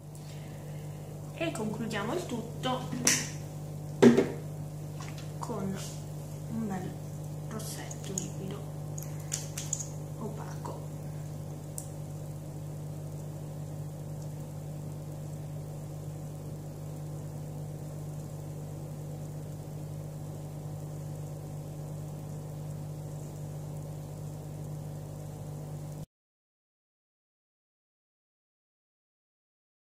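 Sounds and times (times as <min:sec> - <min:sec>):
low machine hum: 0:00.0 - 0:26.1.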